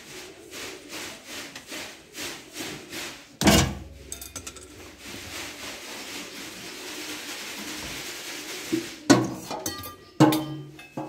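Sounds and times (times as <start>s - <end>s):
hands rubbing sink fittings: 0.0s - 9.7s.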